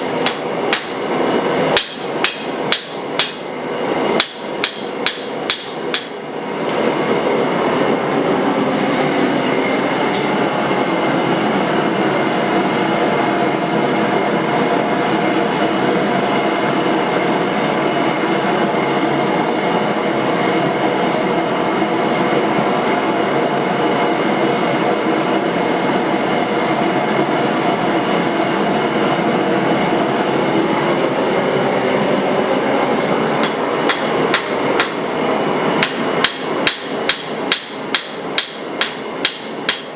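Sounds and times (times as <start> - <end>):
forge machine rushing noise: 0.0 - 39.9.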